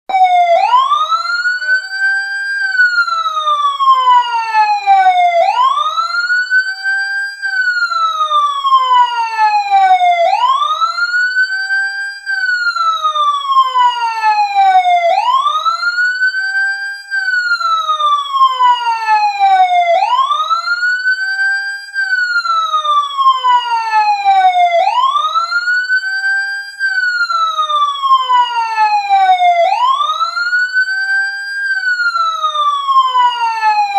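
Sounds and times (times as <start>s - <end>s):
siren ringtone: 0.1s - 33.9s.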